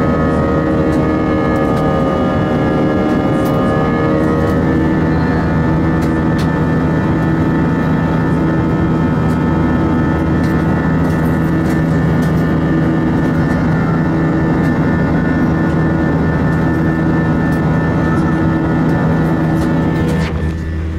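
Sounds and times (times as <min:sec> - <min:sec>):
jet engine drone and airflow: 0:00.0 - 0:20.9
steady humming tones: 0:00.0 - 0:20.9.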